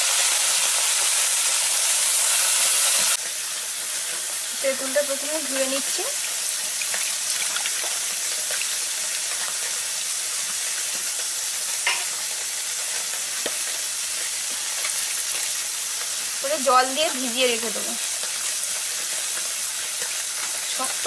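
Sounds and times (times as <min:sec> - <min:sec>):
fish frying in hot oil: 0:00.0 - 0:21.0
oil popping and crackling: 0:00.0 - 0:21.0.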